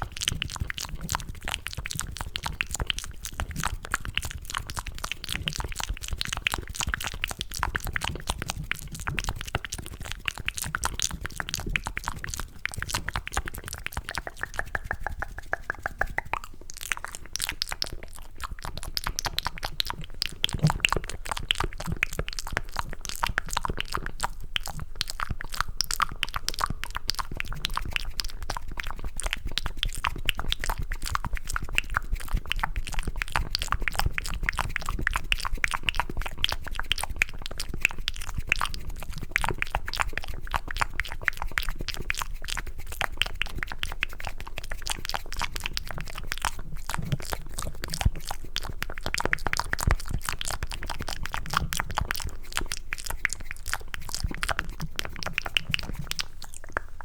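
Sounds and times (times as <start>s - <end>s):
wet mouth clicks and smacks: 0.0s - 57.0s.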